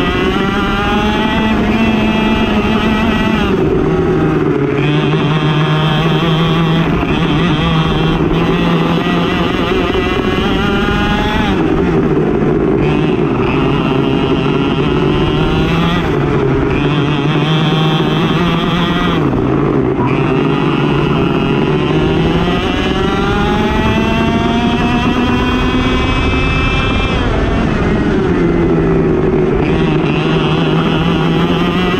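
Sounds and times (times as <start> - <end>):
racing kart engine revving: 0.0 - 31.9.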